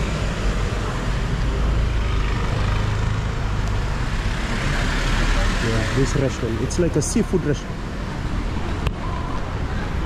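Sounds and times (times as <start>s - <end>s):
cars passing: 0.0s - 10.0s
road noise hiss: 0.0s - 10.0s.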